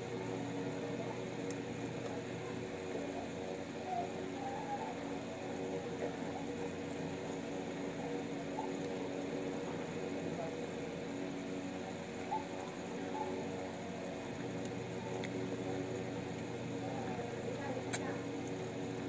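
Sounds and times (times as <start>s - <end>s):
steady hum of held tones: 0.0s - 19.0s.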